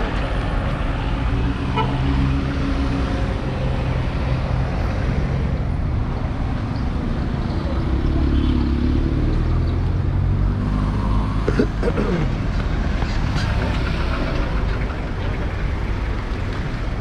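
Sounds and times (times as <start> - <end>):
cars driving slowly past: 0.0 - 17.0.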